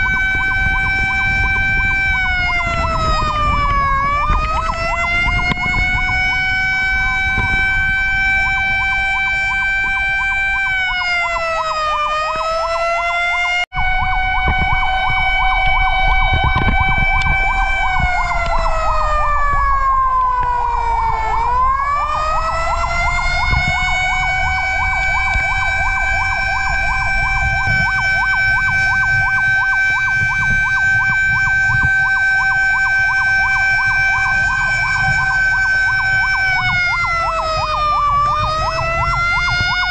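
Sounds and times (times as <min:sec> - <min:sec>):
siren wailing: 0:00.0 - 0:39.9
siren yelping warble: 0:00.0 - 0:39.9
truck rumbling: 0:00.0 - 0:39.9.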